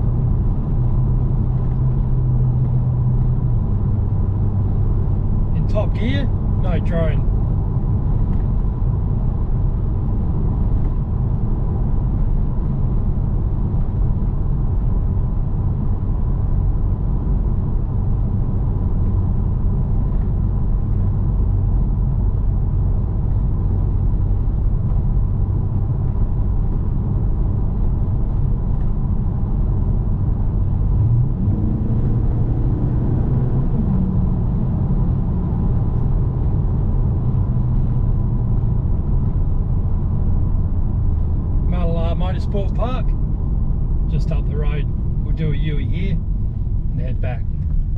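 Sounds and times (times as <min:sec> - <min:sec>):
car engine rumble: 0:00.0 - 0:47.9
road noise: 0:00.0 - 0:47.9.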